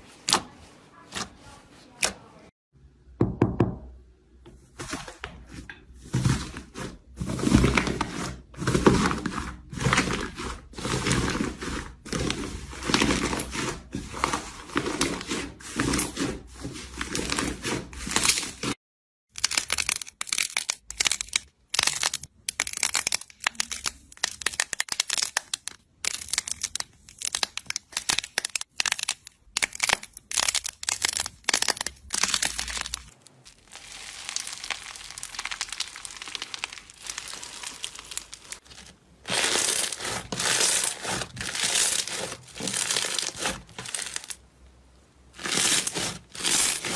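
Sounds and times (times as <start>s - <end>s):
slime squishing and crackling: 6.1s - 44.4s, 45.3s - 46.9s.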